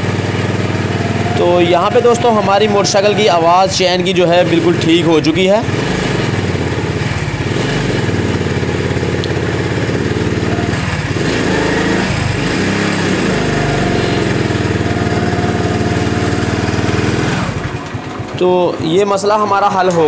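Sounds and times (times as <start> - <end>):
motorcycle engine running: 0.0 - 20.0
spinning rear wheel: 0.0 - 20.0.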